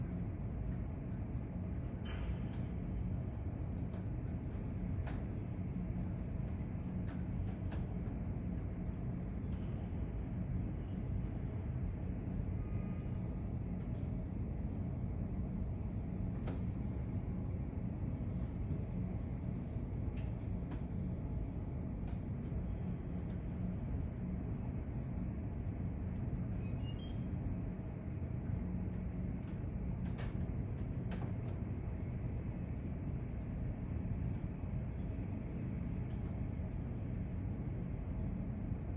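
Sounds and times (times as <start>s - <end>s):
low city rumble: 0.0s - 38.9s.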